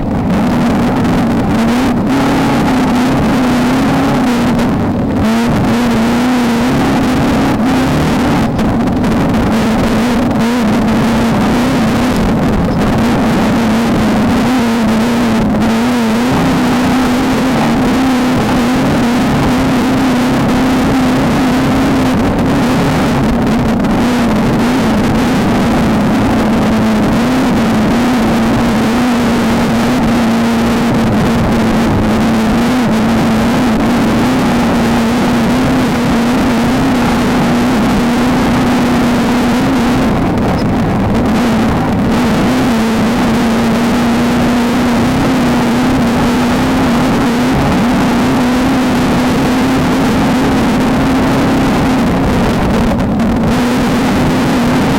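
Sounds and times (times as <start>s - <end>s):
loud rushing noise: 0.0s - 54.9s
race car engine running hard: 0.0s - 54.9s.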